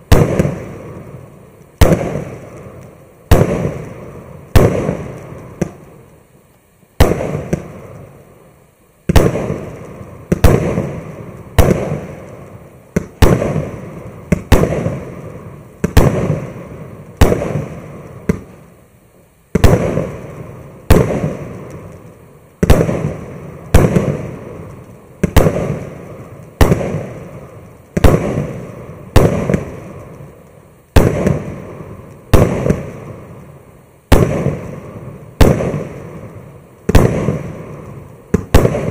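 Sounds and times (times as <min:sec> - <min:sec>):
firework shots firing: 0:00.0 - 0:06.2, 0:07.0 - 0:08.4, 0:09.0 - 0:18.7, 0:19.5 - 0:38.9
rumble of shells bursting: 0:00.0 - 0:06.2, 0:07.0 - 0:08.4, 0:09.0 - 0:18.6, 0:19.5 - 0:38.9.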